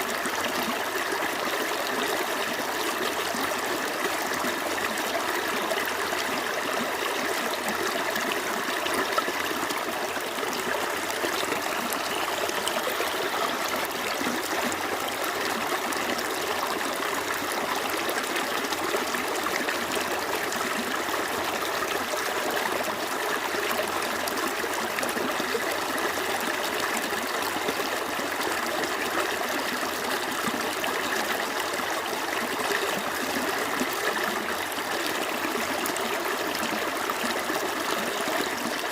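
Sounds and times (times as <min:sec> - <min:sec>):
stream flowing over stones: 0:00.0 - 0:38.9.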